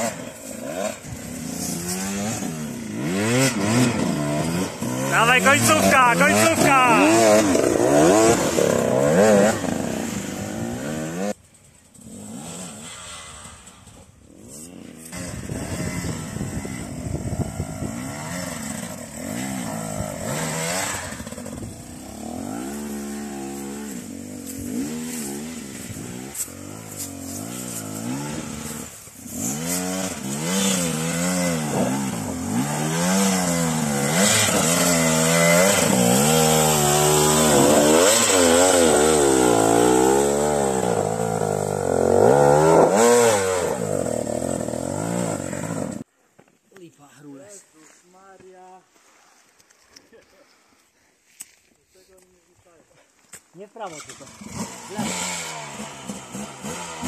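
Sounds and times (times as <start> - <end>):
two-stroke motorcycle engines revving: 0.0 - 46.1, 53.7 - 57.0.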